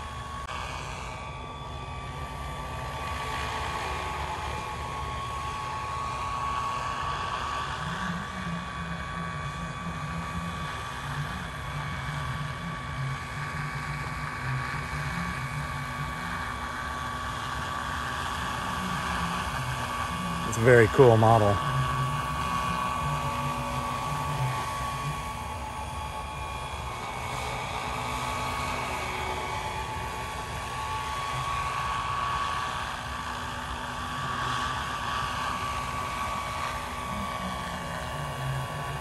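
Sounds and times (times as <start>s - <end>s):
helicopter rotors: 0.0s - 39.0s
model helicopter motor whine: 0.0s - 39.0s.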